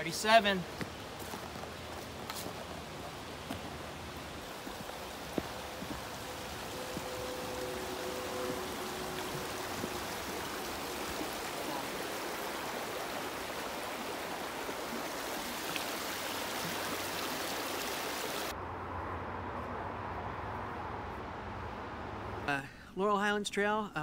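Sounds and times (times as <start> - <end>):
stream rushing: 0.0 - 22.5.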